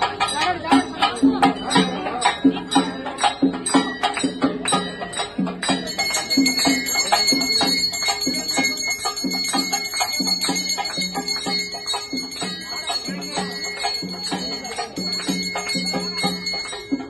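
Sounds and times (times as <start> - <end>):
bells ringing: 0.0 - 17.0
procession drums beating: 0.0 - 17.0.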